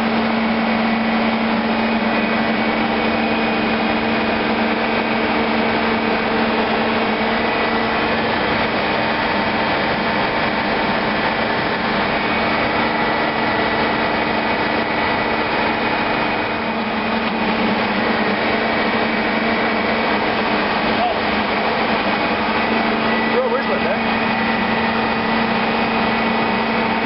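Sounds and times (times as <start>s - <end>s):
engine room machinery drone: 0.0s - 27.0s.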